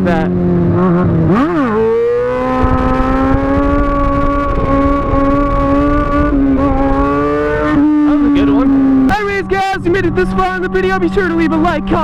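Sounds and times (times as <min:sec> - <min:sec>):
low rumble: 0:00.0 - 0:12.0
motorcycle engine running: 0:00.0 - 0:12.0.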